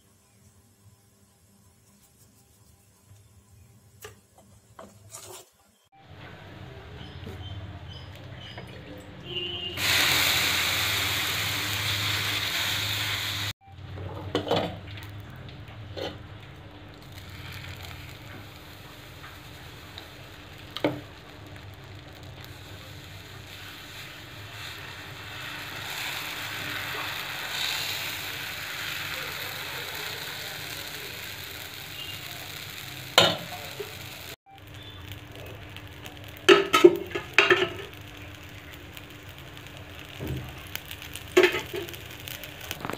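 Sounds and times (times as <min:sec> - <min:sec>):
batter sizzling on hot iron: 0:00.0 - 0:06.2, 0:09.6 - 0:13.6, 0:14.4 - 0:42.9.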